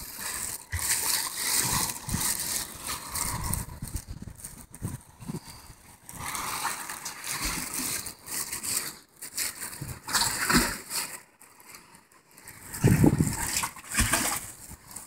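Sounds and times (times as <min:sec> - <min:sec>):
sea waves on rocky shore: 0:00.0 - 0:15.0.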